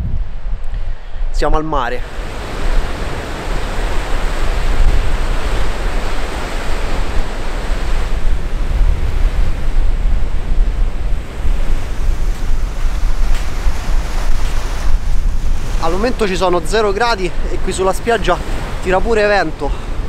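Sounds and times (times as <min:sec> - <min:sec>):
wind gusting on microphone: 0:00.0 - 0:20.0
waves breaking on a beach: 0:01.2 - 0:20.0.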